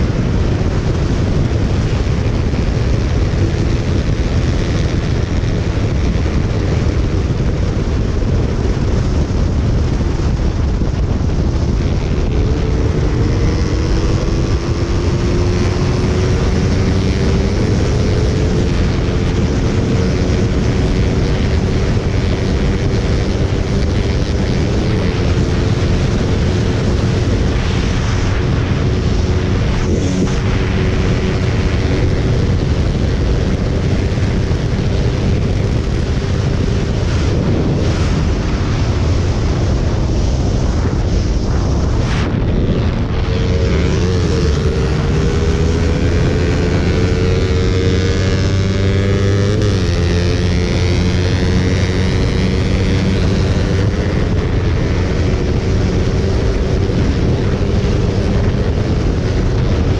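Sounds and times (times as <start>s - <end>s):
motorcycle engine drone: 0.0s - 59.9s
wind blasting the microphone: 0.0s - 59.9s.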